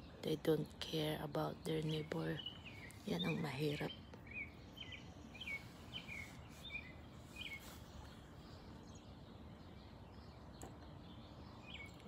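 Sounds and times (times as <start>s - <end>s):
bird chirping: 0.0s - 12.0s
faint background noise: 0.0s - 12.0s.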